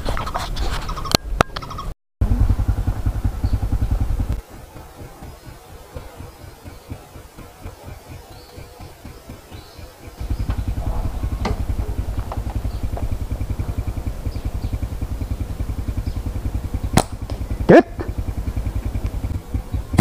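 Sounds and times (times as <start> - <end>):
small engine running: 1.7 - 20.0
sharp clicks: 3.2 - 20.0.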